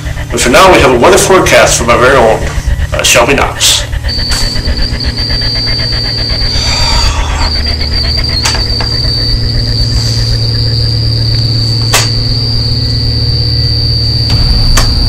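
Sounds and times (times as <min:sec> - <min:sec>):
high-pitched whine: 0:00.0 - 0:15.0
loud low hum: 0:00.0 - 0:15.0.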